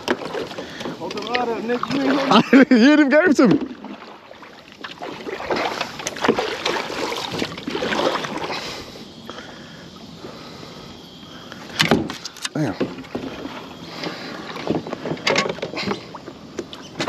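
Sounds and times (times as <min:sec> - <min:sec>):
water splashing around a kayak: 0:00.0 - 0:17.0.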